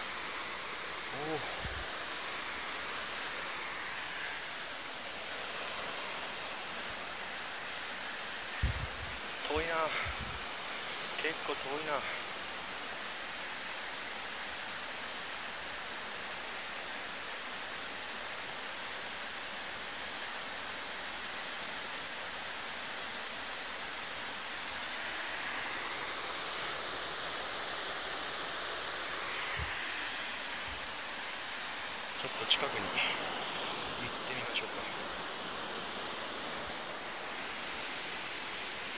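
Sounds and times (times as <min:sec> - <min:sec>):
distant waterfall hissing: 0:00.0 - 0:38.9.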